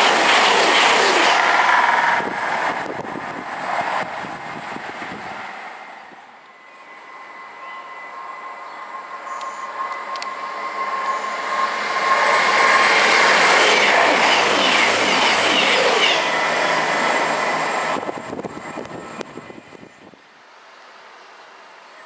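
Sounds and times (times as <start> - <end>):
train wheels rushing on rails: 0.0 - 20.1.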